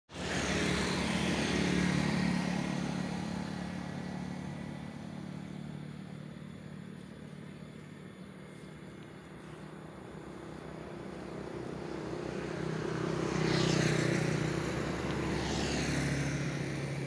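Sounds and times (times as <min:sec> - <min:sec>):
vehicle engine passing by: 0:00.1 - 0:17.0.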